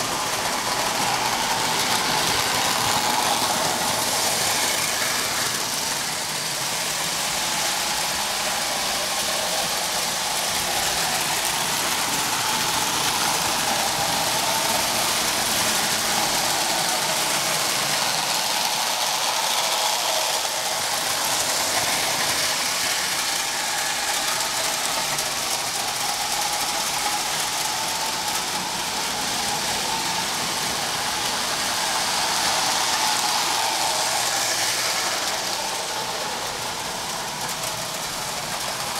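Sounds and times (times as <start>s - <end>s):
toy train motors whirring: 0.0s - 38.9s.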